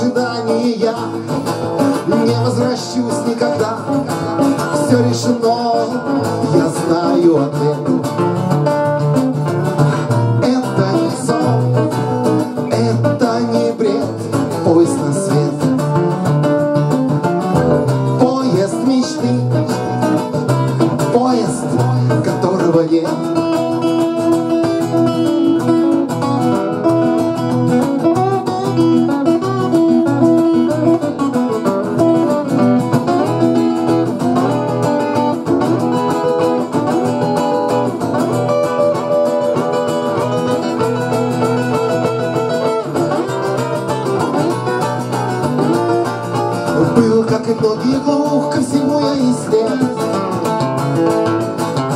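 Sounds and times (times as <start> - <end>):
acoustic guitars playing: 0.0 - 51.9.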